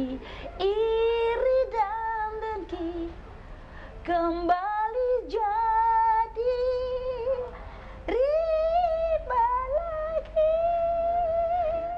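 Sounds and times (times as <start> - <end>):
woman singing held wordless notes: 0.0 - 3.2, 3.8 - 11.9.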